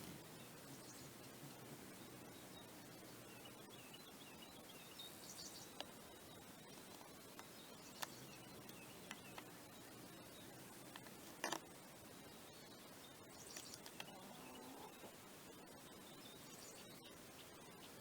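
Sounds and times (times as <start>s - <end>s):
hummingbirds chirping: 0.0s - 18.0s.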